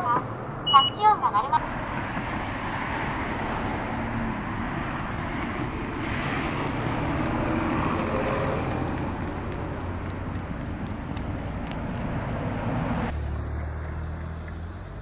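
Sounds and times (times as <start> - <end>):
engine hum: 0.0 - 15.0
road traffic rumble: 0.0 - 15.0.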